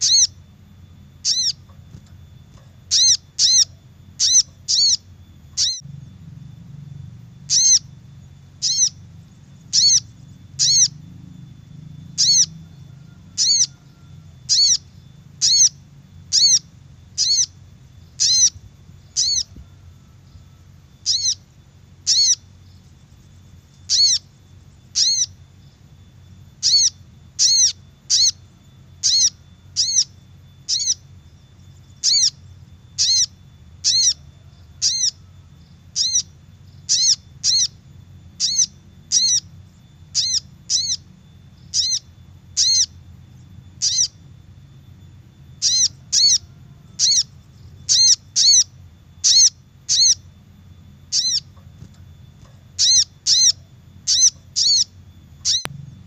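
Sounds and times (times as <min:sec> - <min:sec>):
bird chirping: 0:00.0 - 0:56.0
faint steady hum: 0:00.0 - 0:56.0.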